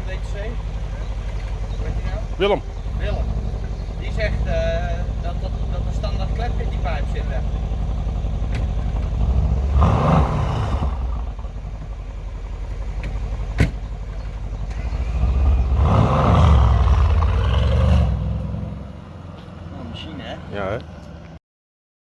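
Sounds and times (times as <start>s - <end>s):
car exhaust idling and revving: 0.0s - 21.4s.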